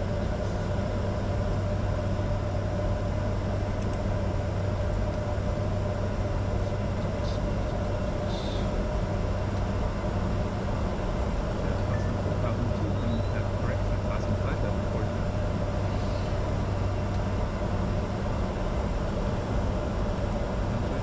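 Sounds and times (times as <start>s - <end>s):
jet engines humming in cockpit: 0.0s - 21.0s.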